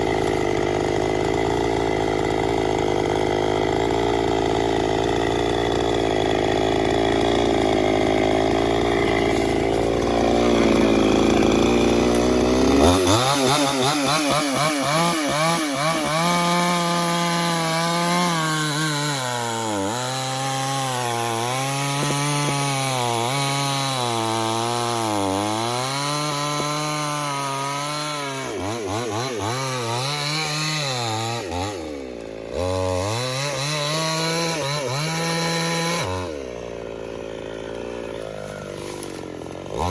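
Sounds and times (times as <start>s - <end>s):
chainsaw cutting into a tree trunk: 0.0s - 39.9s.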